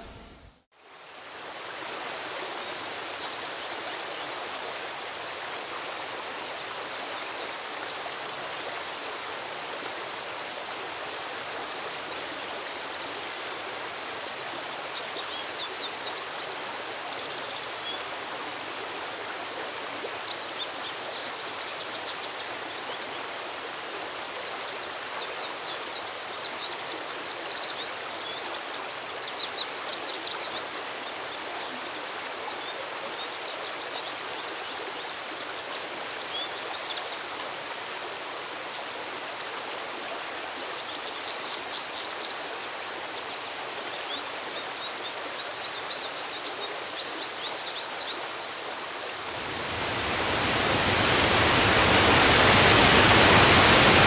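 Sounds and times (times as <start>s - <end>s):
stream rushing over rocks: 0.8s - 54.0s.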